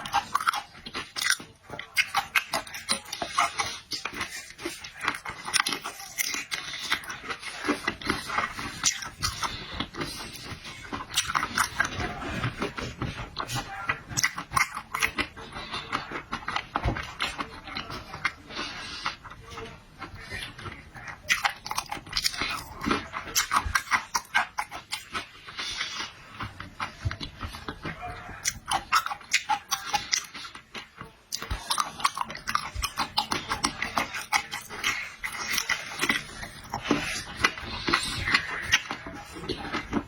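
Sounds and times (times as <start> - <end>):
wet chewing and mouth smacks: 0.0 - 40.0.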